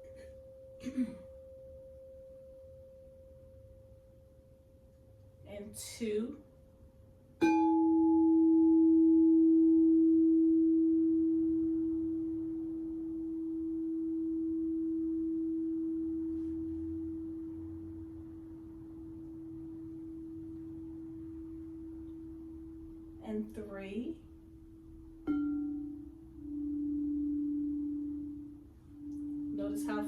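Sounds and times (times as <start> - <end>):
singing bowl ringing: 0.0 - 4.9, 7.4 - 23.1, 25.2 - 30.0.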